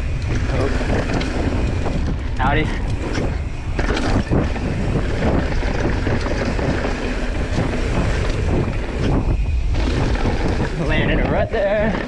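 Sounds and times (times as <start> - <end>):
bike clattering on rough trail: 0.0 - 12.0
low rumble: 0.0 - 12.0
wind buffeting microphone: 0.0 - 12.0.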